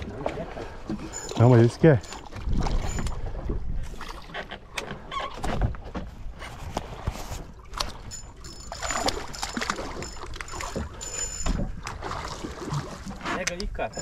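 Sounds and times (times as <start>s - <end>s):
knocks and clatter on boat: 0.0s - 14.0s
water lapping against boat hull: 0.0s - 14.0s.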